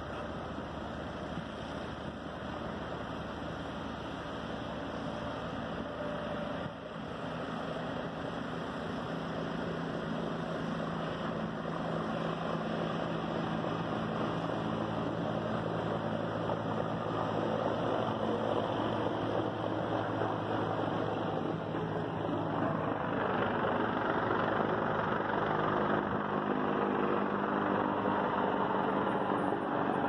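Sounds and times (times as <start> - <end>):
engine drone: 0.0 - 30.0.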